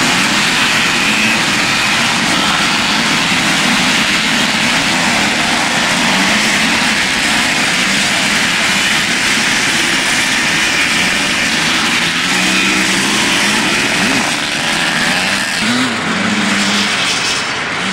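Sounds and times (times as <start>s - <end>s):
motorcycle engines revving: 0.0s - 17.9s.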